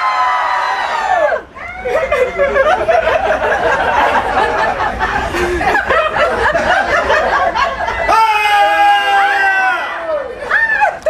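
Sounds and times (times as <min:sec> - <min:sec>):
people chattering and laughing: 0:00.6 - 0:11.0.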